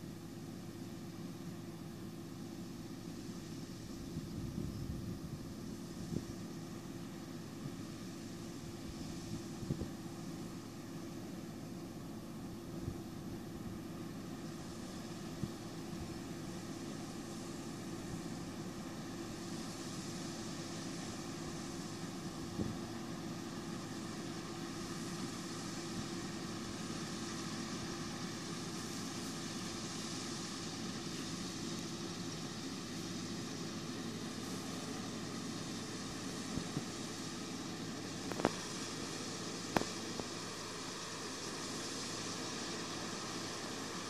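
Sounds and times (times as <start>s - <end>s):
combine harvester droning: 0.0s - 44.0s.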